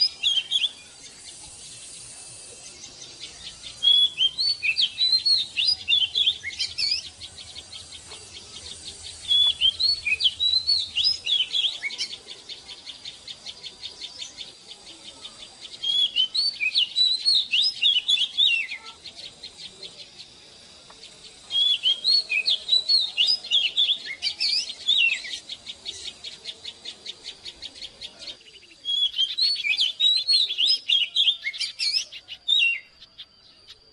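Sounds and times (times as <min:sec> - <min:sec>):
bird singing whistled phrases: 0:00.0 - 0:20.3, 0:21.2 - 0:33.9.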